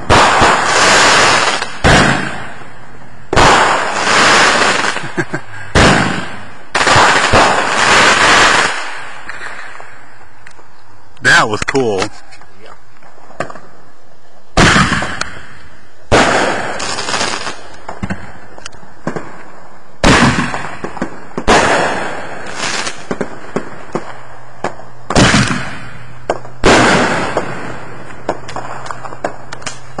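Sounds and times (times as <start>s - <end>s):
fireworks bangs: 0.0s - 10.4s, 14.5s - 30.0s
fireworks crackles: 0.0s - 30.0s.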